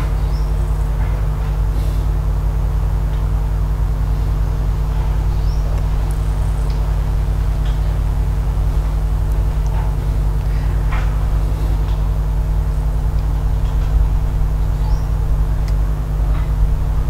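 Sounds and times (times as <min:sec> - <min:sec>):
loud machine hum: 0:00.0 - 0:17.0.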